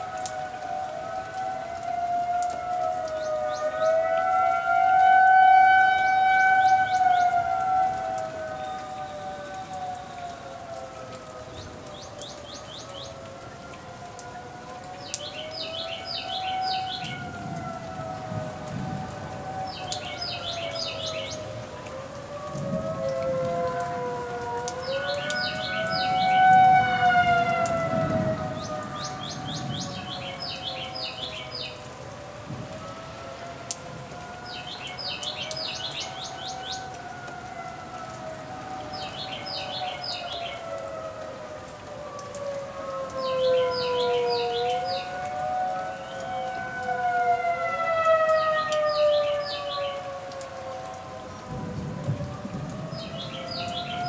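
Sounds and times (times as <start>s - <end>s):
steady rain: 0.0s - 54.0s
warning sirens wailing: 0.0s - 54.0s.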